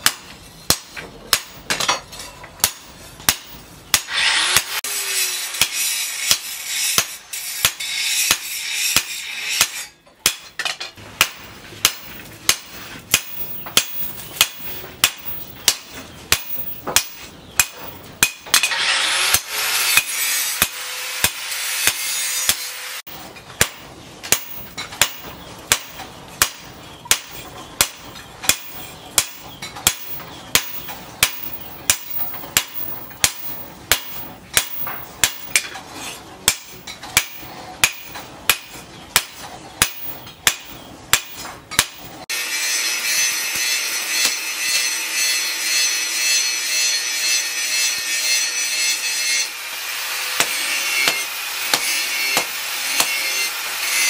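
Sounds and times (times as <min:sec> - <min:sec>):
hammer striking hot metal on anvil: 0:00.0 - 0:04.8, 0:05.5 - 0:35.7, 0:36.4 - 0:49.6, 0:50.4 - 0:54.0.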